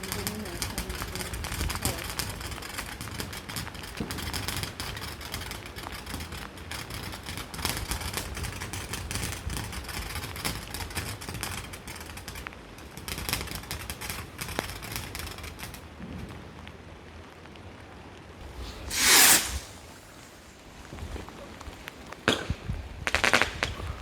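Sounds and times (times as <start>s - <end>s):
firework crackling: 0.0s - 24.0s.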